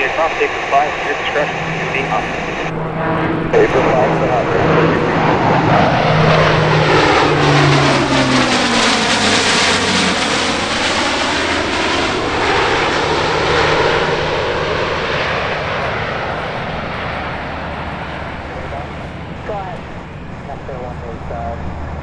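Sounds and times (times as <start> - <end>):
turboprop aircraft droning past: 0.0 - 22.0.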